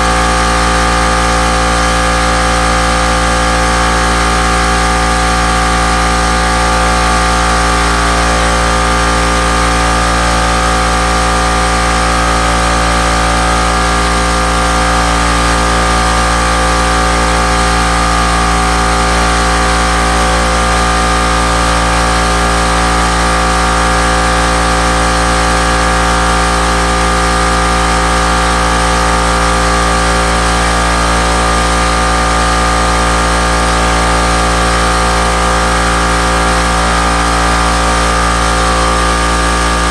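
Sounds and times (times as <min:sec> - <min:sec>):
machine humming and hissing: 0:00.0 - 0:39.9.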